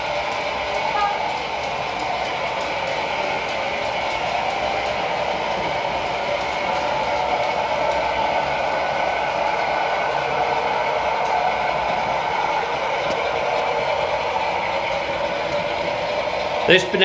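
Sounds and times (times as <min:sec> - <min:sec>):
model locomotive diesel engine sound: 0:00.0 - 0:17.0.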